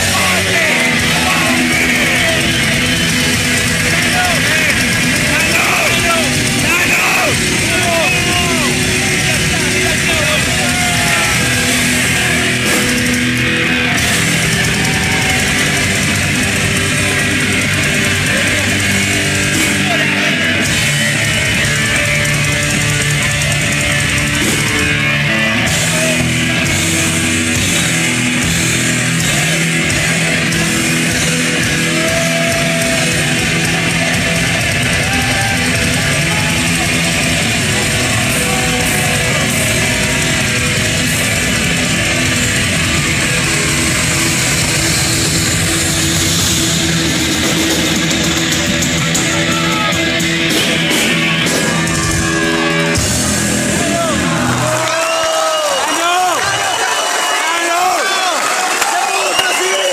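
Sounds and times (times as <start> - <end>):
heavy metal band playing: 0.0 - 59.9.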